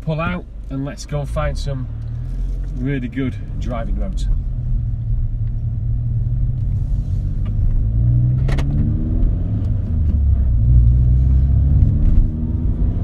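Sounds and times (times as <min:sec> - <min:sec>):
car engine accelerating: 0:01.2 - 0:13.0.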